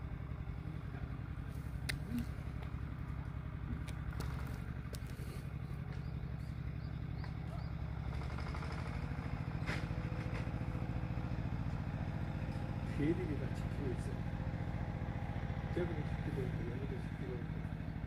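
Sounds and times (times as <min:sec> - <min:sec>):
motor idling: 0:00.0 - 0:18.0.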